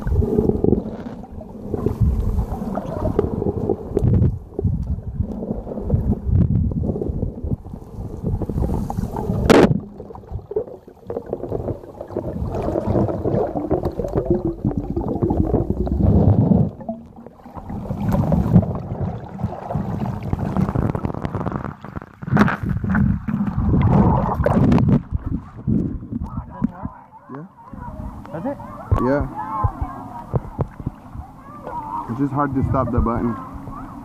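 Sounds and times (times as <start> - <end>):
muffled water sloshing and gurgling: 0.0 - 34.0.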